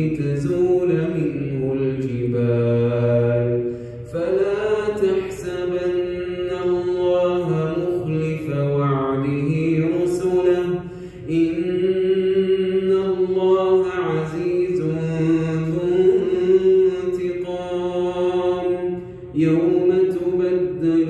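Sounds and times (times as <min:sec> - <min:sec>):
man chanting recitation: 0:00.0 - 0:21.0.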